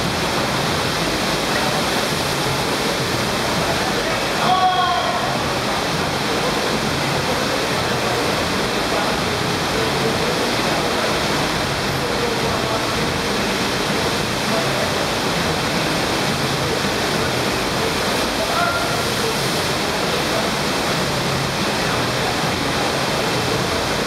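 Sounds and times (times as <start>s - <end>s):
rush of pumped water: 0.0s - 24.0s.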